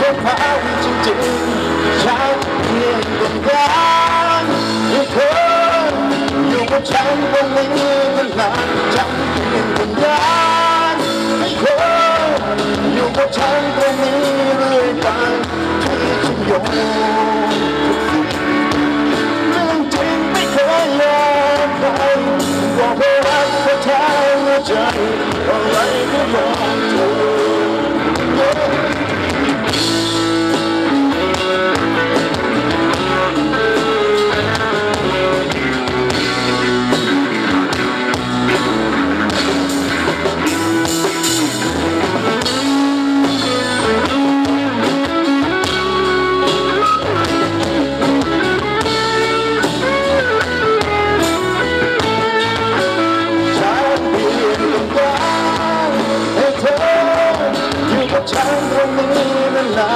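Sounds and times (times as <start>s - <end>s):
live band playing pop: 0.0s - 59.9s.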